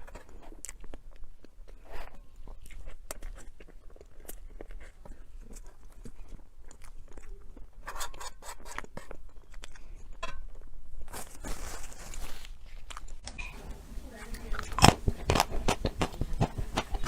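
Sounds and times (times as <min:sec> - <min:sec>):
crunchy chewing and biting: 0:00.0 - 0:17.0.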